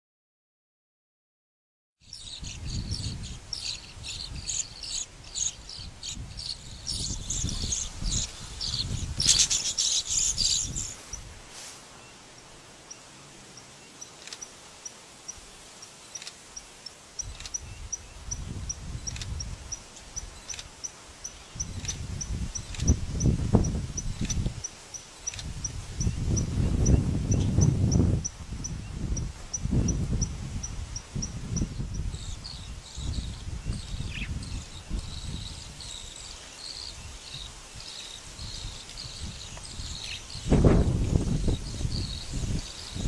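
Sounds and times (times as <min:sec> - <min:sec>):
cage birds chirping: 0:02.0 - 0:11.3, 0:11.9 - 0:43.0.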